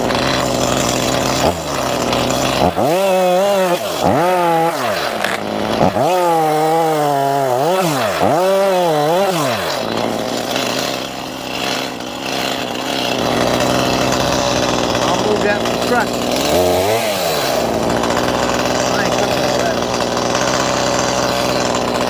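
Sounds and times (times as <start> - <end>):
chainsaw revving and idling: 0.0 - 22.0.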